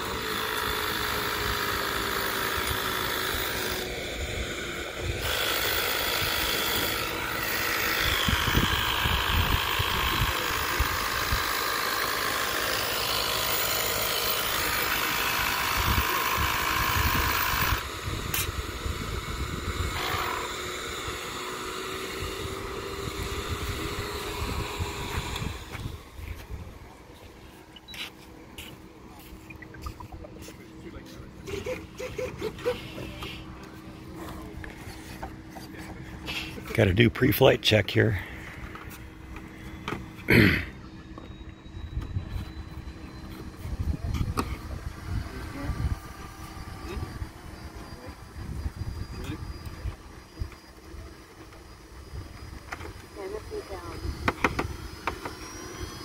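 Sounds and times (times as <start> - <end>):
model jet turbine whining: 0.0 - 56.0.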